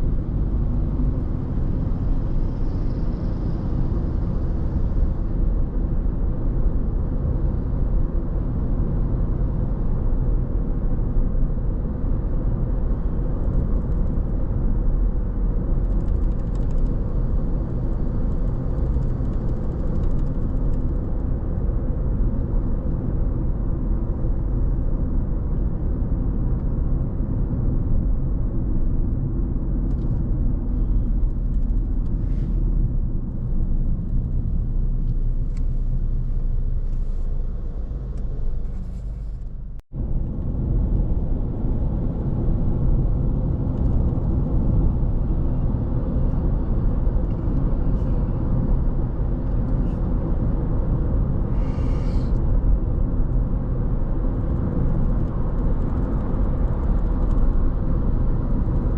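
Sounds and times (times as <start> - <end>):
car driving road noise: 0.0 - 58.9.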